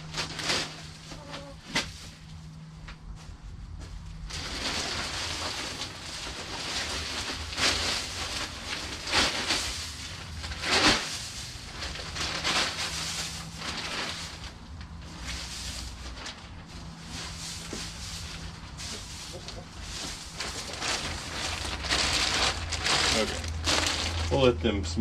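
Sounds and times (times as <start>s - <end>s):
wood shavings rustling: 0.0s - 2.7s, 4.2s - 24.5s.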